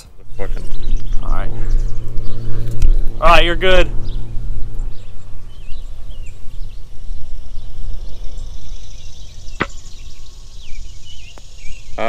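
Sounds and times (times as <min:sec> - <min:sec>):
birds chirping faintly: 0:00.0 - 0:12.0
wind buffeting microphone: 0:00.0 - 0:12.0.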